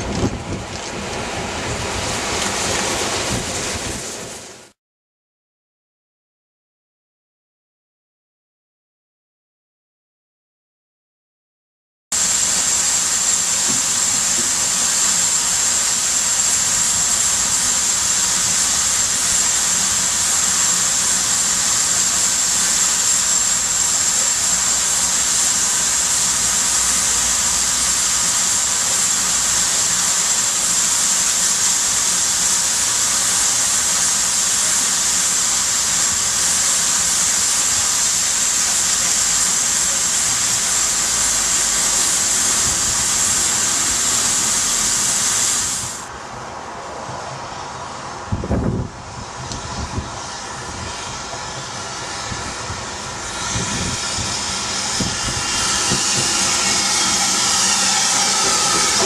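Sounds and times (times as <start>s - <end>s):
steam locomotive hissing steam: 0.0s - 4.8s, 12.2s - 59.0s.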